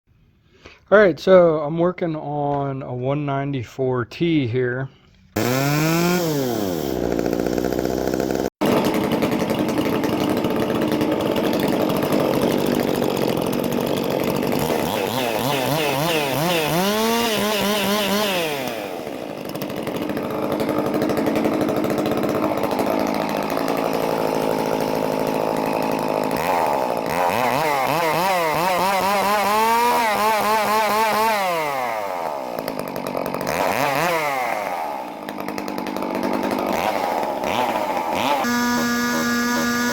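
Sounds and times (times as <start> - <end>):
chainsaw revving: 5.4 - 39.9.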